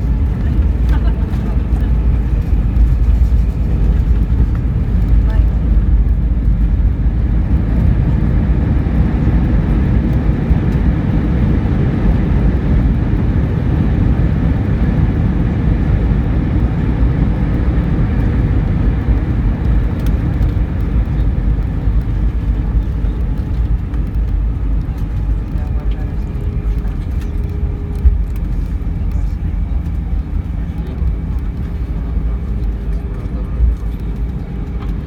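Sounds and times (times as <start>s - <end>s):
faint engine whine: 0.0s - 35.0s
low rumble of engines and wheels: 0.0s - 35.0s.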